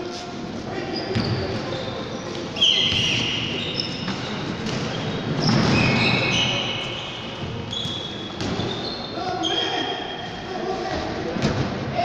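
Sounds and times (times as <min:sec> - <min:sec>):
sneakers squeaking: 0:00.0 - 0:11.1.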